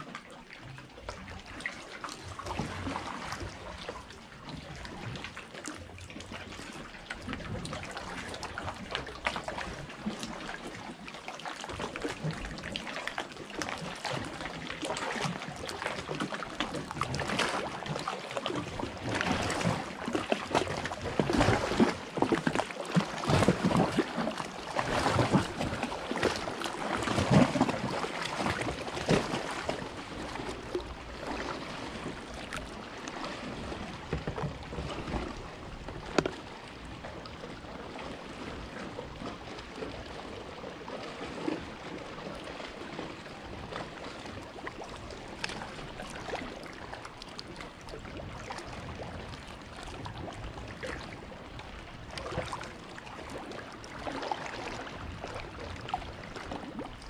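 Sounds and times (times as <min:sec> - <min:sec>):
paddle strokes splashing: 0:00.0 - 0:57.0
water lapping at hull: 0:00.0 - 0:57.0.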